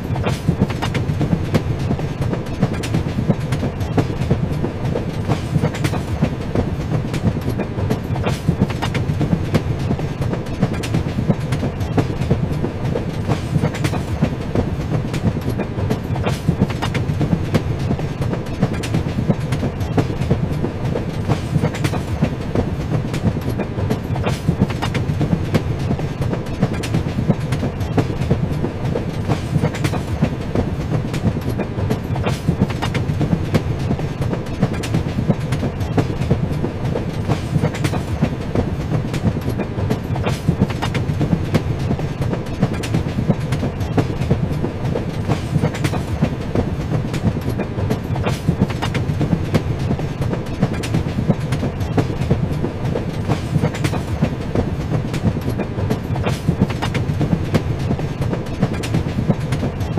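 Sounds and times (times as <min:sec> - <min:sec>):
train rumbling on rails: 0:00.0 - 0:59.9
wheels clicking on track: 0:00.0 - 0:59.9.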